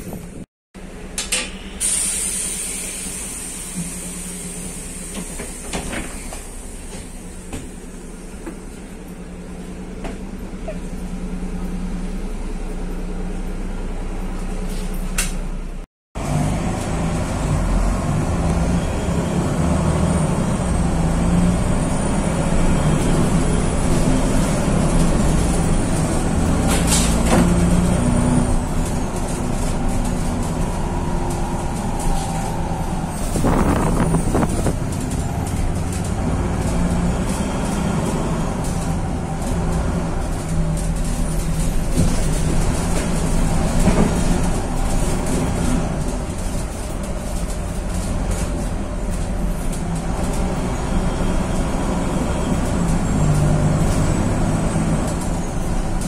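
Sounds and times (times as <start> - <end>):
bus engine from inside cabin: 0.0 - 56.0.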